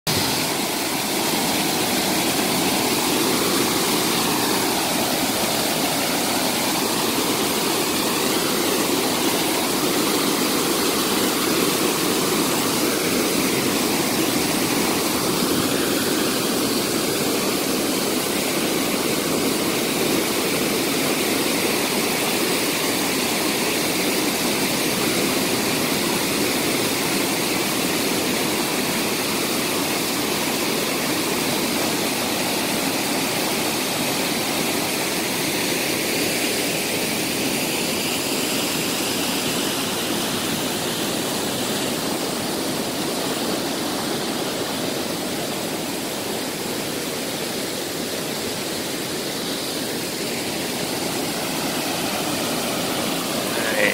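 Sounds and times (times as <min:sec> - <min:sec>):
waterfall rushing and splashing: 0:00.0 - 0:53.9.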